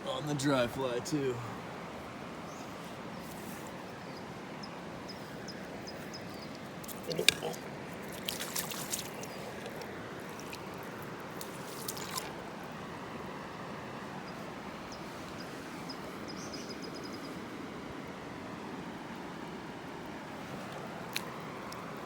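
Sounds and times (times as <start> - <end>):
stream flowing: 0.0 - 22.0.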